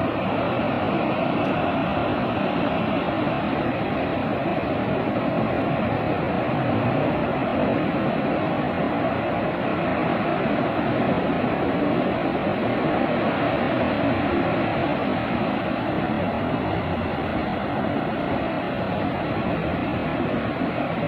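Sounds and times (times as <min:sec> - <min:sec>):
rushing roar of burning blowout: 0:00.0 - 0:21.0.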